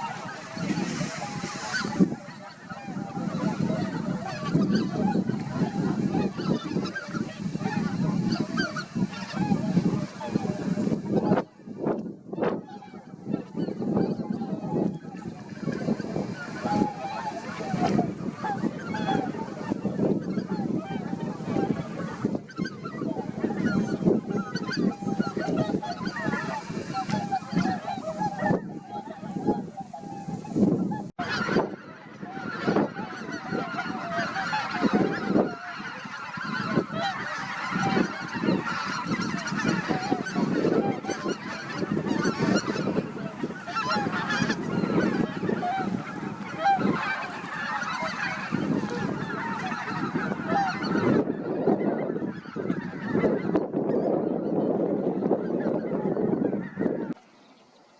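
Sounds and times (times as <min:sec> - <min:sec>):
geese honking: 0:00.0 - 0:57.9.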